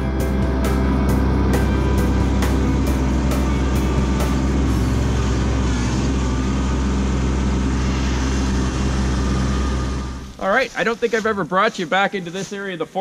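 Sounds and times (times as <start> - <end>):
tractor diesel engine running: 0.0 - 12.4.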